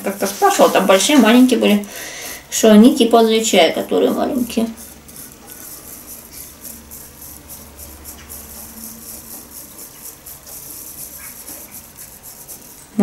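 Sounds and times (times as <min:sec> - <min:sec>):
whisk swishing in a bowl: 0:00.0 - 0:13.0.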